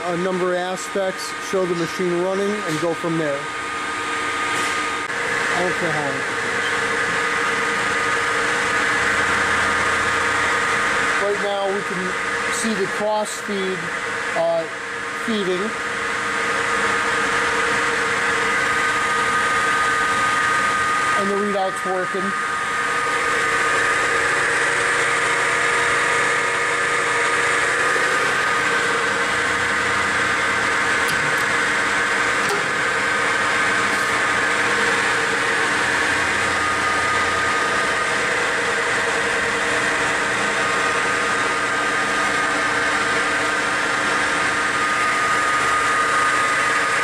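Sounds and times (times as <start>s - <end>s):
lathe whining: 0.0s - 47.0s.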